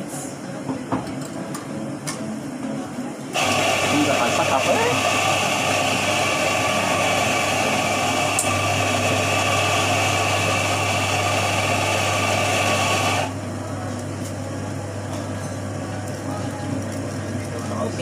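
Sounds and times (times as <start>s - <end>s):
coffee machine whirring hiss: 3.3s - 18.0s.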